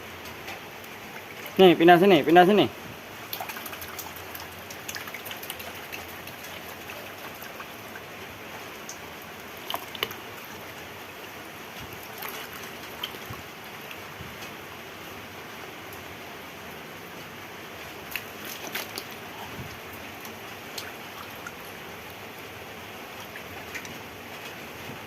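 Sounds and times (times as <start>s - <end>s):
water splashing in a bucket: 0.8s - 14.4s, 18.0s - 25.0s.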